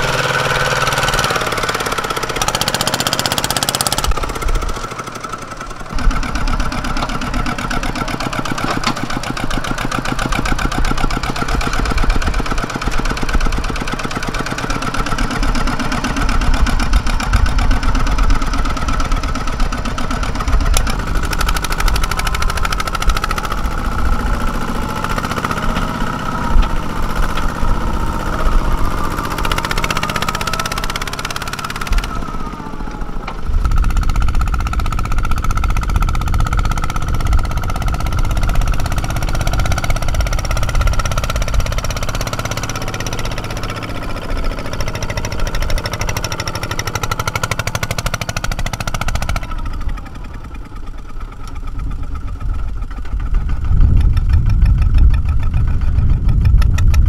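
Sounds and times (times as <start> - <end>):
diesel engine knocking and whining: 0.0 - 57.0.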